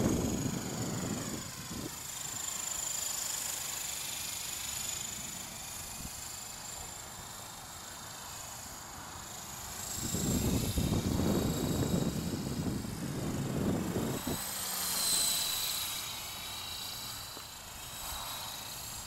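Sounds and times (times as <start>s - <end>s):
rc helicopter motor whine: 0.0s - 19.0s.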